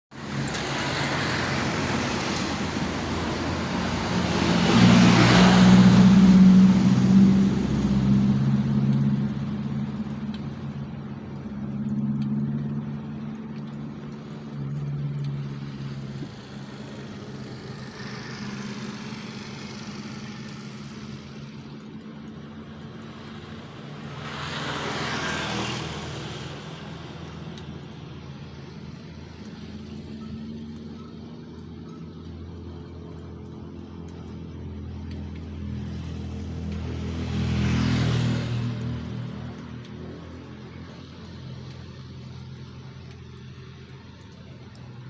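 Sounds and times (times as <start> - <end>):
vehicle engine humming: 0.2 - 45.0.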